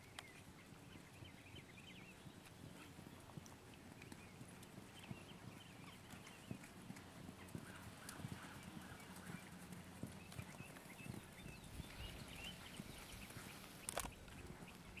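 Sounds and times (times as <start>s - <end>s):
horse hoofbeats on sand: 0.0s - 15.0s.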